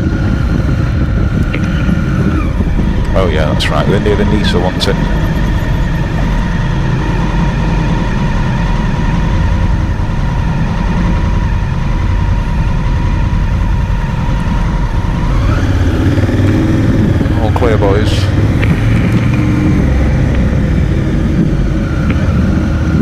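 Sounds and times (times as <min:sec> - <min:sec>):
motorcycle engine running: 0:00.0 - 0:23.0
wind rush: 0:00.0 - 0:23.0.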